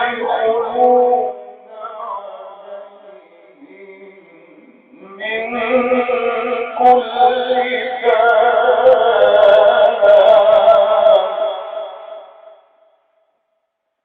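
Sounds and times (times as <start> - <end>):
man chanting melodic recitation: 0.0 - 12.5.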